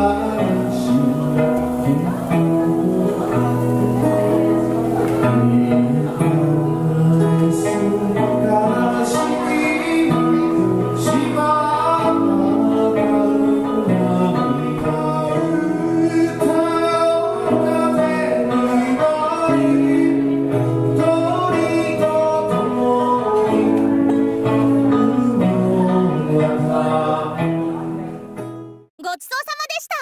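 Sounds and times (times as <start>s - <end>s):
plucked string accompaniment: 0.0s - 28.9s.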